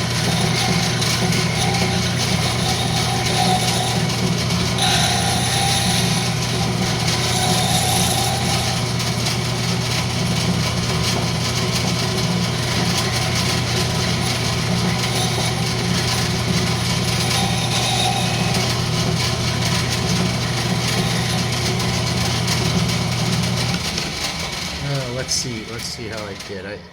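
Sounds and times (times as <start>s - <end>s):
turning tool cutting wood hiss: 0.0s - 23.8s
wood lathe motor hum: 0.0s - 26.9s.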